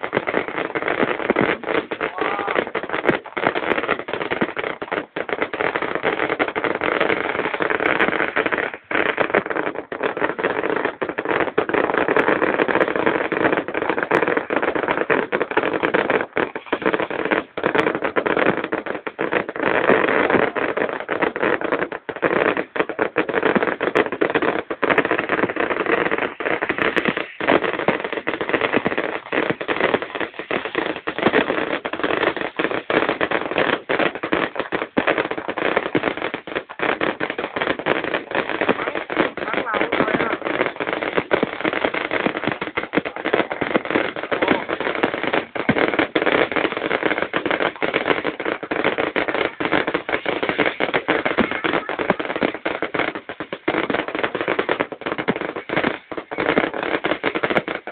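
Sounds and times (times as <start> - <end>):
fireworks crackling: 0.0 - 57.9.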